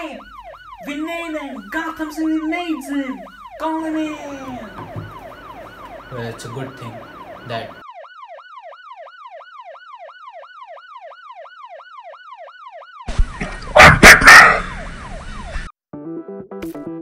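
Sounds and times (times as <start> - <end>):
yelping siren: 0.0 - 15.7.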